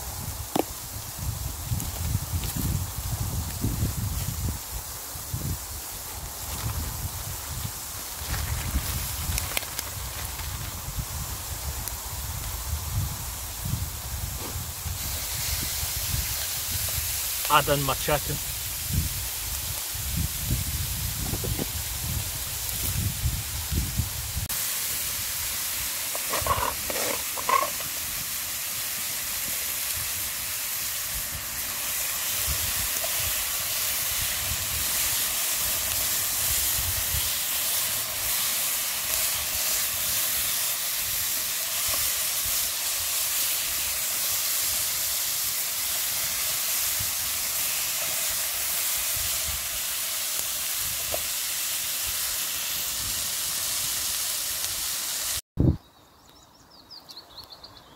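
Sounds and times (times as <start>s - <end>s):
food sizzling in a frying pan: 0.0s - 55.4s.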